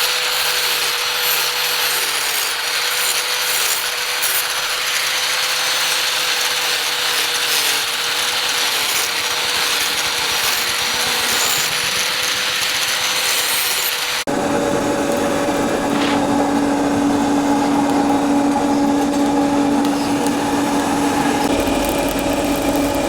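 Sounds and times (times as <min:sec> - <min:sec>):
motor humming: 0:00.0 - 0:23.0
tool scraping: 0:00.0 - 0:23.0.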